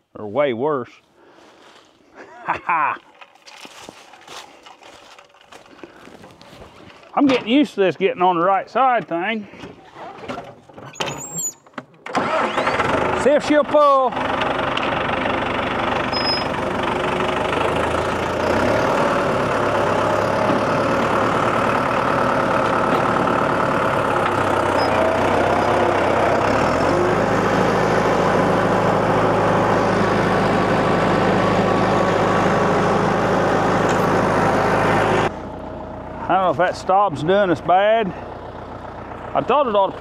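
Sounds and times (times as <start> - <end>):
tractor diesel engine running: 2.8 - 40.0.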